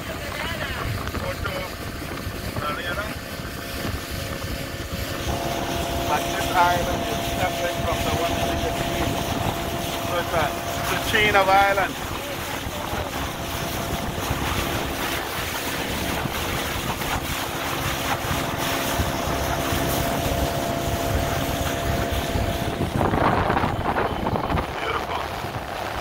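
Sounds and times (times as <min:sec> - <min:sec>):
speedboat engine running: 0:00.0 - 0:26.0
water rushing past hull: 0:00.0 - 0:26.0
wind buffeting the microphone: 0:00.0 - 0:26.0.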